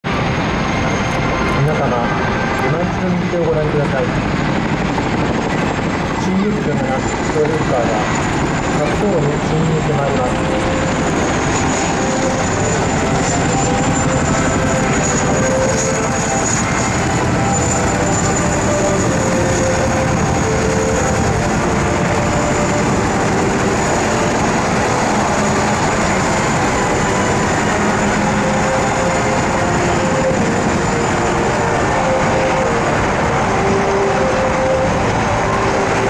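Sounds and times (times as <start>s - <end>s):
turbine engine whine: 0.0s - 36.0s
helicopter rotor chop: 0.1s - 36.0s.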